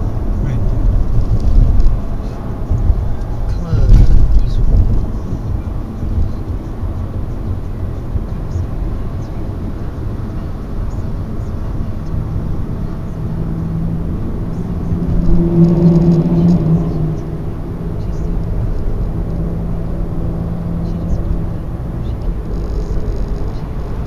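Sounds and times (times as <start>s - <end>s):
car road and engine rumble: 0.0s - 24.0s
steady low hum: 0.0s - 24.0s.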